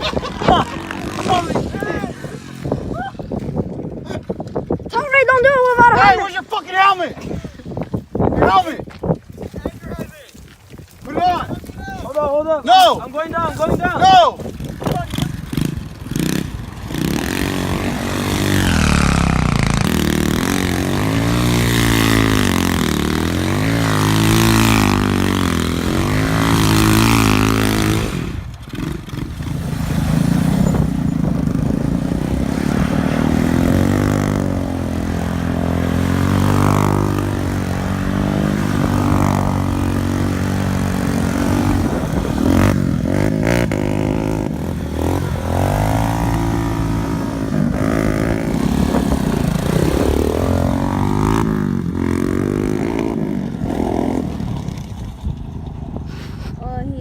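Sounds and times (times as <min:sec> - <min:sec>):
off-road engine revving: 0:00.0 - 0:03.0, 0:12.4 - 0:55.4.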